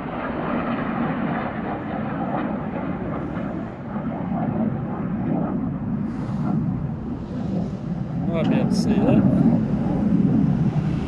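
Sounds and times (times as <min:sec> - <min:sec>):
fighter jet flying past: 0:00.0 - 0:11.0.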